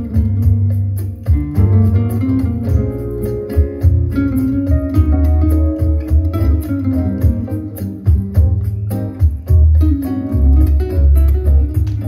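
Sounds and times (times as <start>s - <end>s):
music with plucked guitar and bass: 0.0s - 12.0s.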